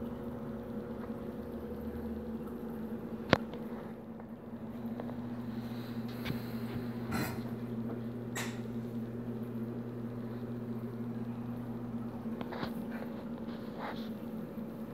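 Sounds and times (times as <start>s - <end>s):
aquarium pumps humming: 0.0s - 14.9s.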